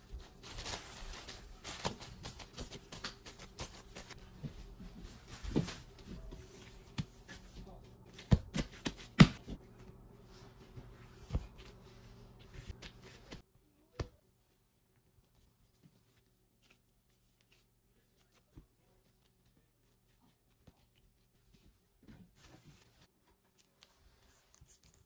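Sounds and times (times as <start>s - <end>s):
hands kneading bread dough: 0.0s - 25.0s.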